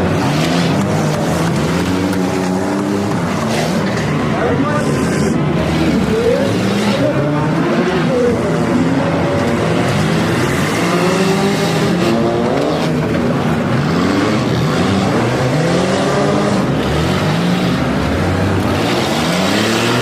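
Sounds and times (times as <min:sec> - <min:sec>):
car engines revving: 0:00.0 - 0:20.0
loud mechanical noise: 0:00.0 - 0:20.0.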